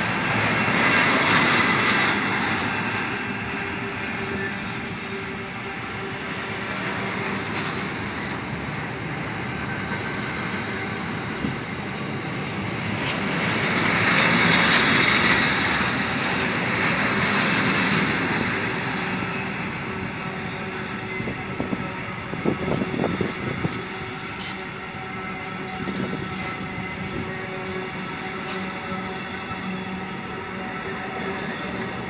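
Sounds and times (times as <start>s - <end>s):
freight train wheels rumbling on rails: 0.0s - 32.0s.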